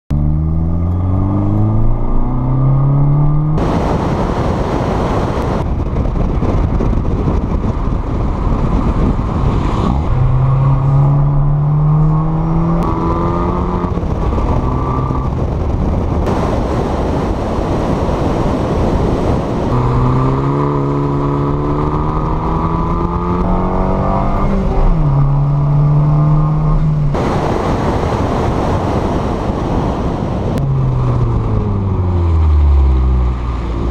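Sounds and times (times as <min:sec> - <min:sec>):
car engine accelerating: 0:00.1 - 0:33.9
wind and road rush: 0:00.1 - 0:33.9.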